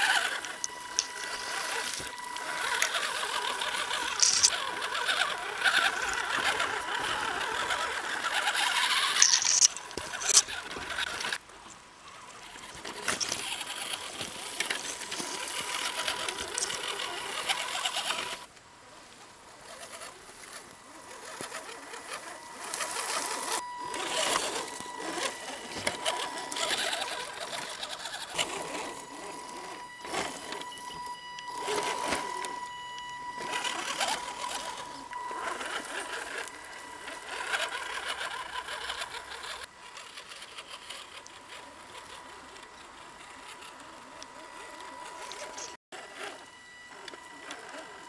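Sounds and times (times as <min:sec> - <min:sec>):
small electric motor whining: 0:00.0 - 0:48.0
tyres crackling through leaves: 0:00.0 - 0:48.0.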